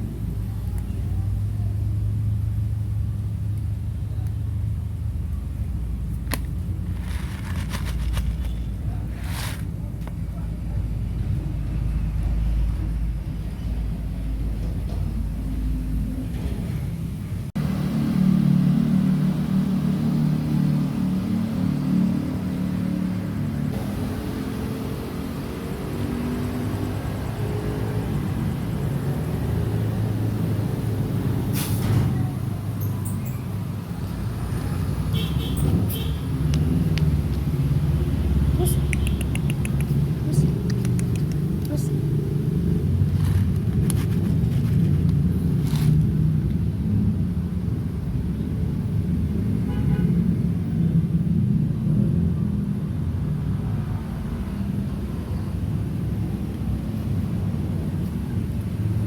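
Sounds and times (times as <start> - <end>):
engine rumble: 0.0 - 59.0.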